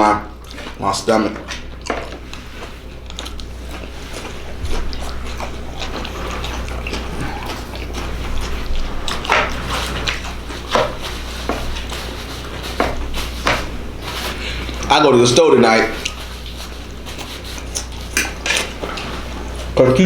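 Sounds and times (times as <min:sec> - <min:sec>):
steady low hum: 0:00.0 - 0:20.0
person chewing food: 0:00.4 - 0:00.8, 0:01.5 - 0:14.9, 0:16.0 - 0:19.8.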